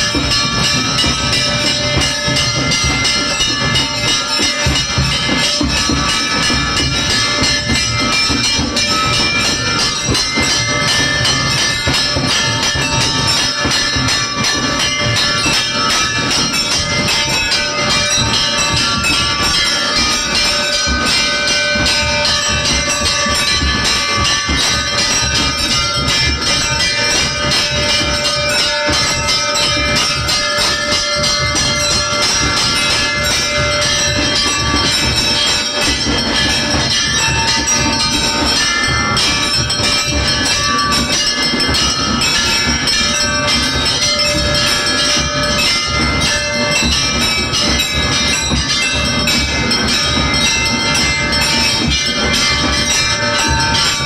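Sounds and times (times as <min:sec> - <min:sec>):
bells clanging: 0:00.0 - 0:54.0.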